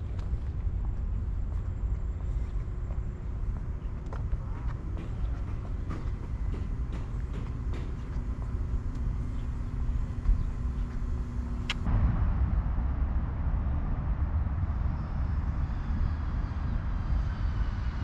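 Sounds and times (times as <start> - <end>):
faint steady hum: 0.0 - 18.0
low rumble of street traffic: 0.0 - 18.0.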